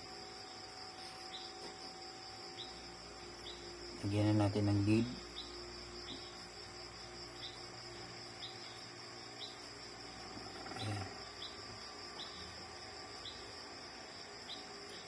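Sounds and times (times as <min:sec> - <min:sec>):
high-pitched insect trill: 0:00.0 - 0:15.0
short insect chirps: 0:00.0 - 0:15.0.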